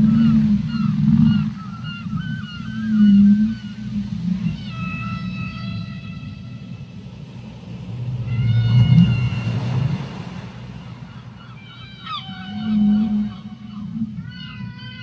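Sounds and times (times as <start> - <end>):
low rumble of deep water: 0.0 - 15.0
whale calls underwater: 0.0 - 15.0.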